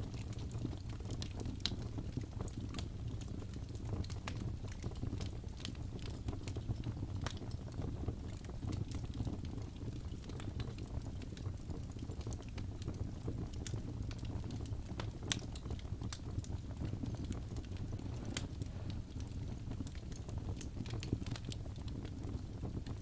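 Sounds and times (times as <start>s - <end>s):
burning wood crackling and popping: 0.0s - 23.0s
low rumble of flames: 0.0s - 23.0s.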